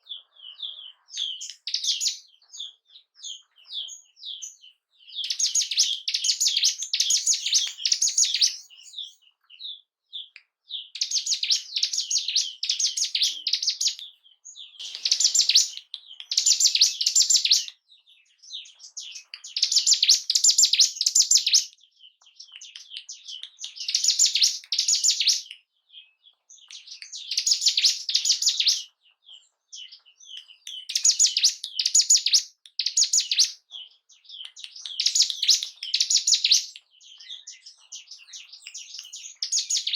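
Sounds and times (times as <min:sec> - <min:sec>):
bird high chattering song: 0:00.0 - 0:39.9.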